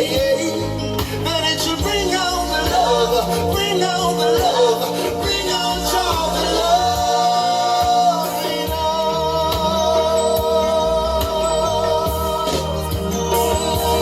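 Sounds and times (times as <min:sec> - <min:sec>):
dancehall music with singing: 0:00.0 - 0:14.0.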